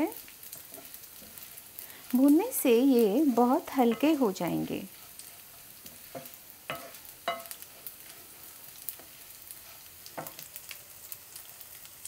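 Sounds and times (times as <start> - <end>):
rice sizzling in a pan: 0.0 - 12.0.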